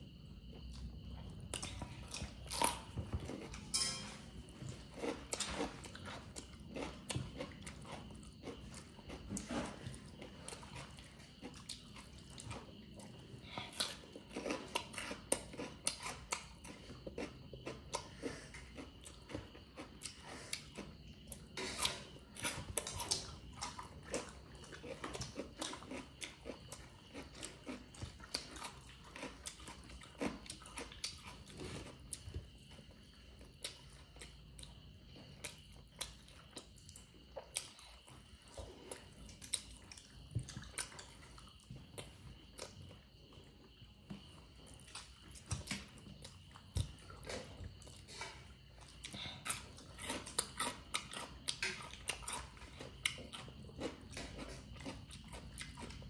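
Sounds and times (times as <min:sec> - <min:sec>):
person chewing and crunching: 0:00.1 - 0:56.0.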